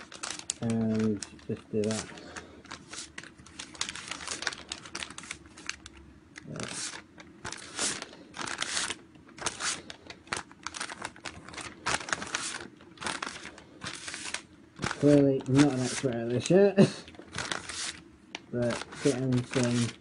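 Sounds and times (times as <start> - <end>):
paper rustling and crinkling: 0.0 - 20.0.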